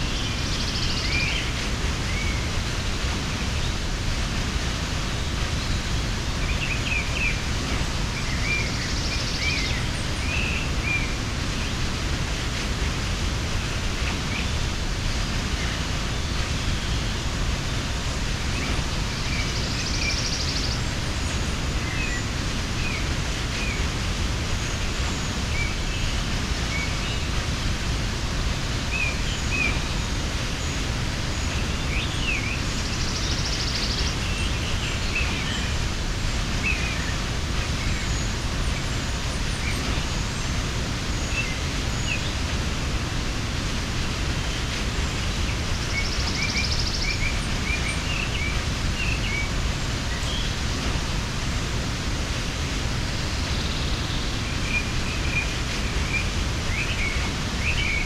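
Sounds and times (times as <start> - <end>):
small birds chirping: 0.0 - 58.0
waterfall rushing: 0.0 - 58.0.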